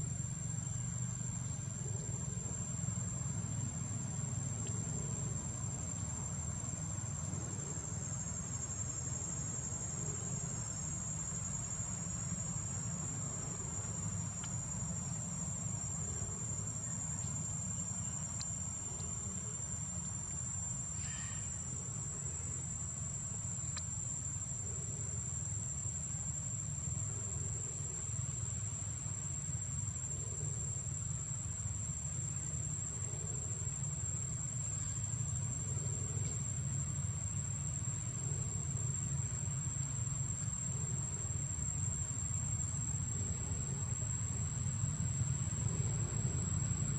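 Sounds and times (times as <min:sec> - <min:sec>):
low steady rumble: 0:00.0 - 0:46.9.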